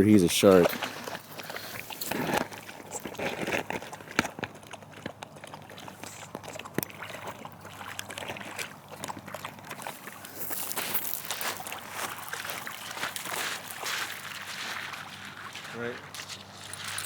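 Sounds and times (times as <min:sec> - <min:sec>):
dog splashing in water: 0:00.6 - 0:17.0.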